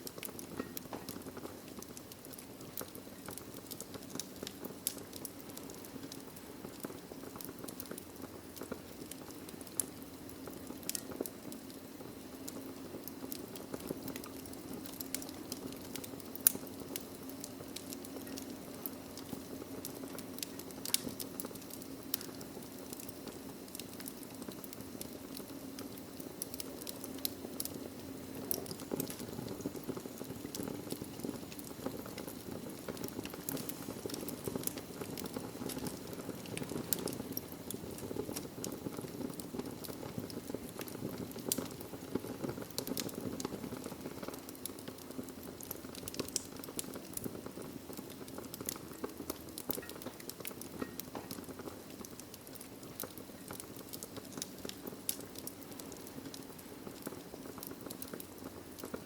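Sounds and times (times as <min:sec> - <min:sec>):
fire flames hissing: 0:00.0 - 0:59.0
logs crackling and popping: 0:00.0 - 0:59.0.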